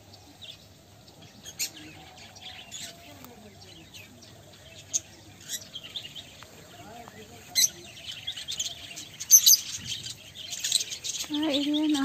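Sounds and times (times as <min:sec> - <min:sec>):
parrots chirping and chattering: 0:00.0 - 0:12.0.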